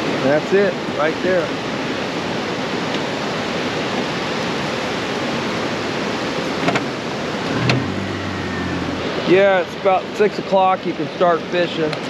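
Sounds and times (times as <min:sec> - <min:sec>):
fast-flowing river water: 0:00.0 - 0:12.0.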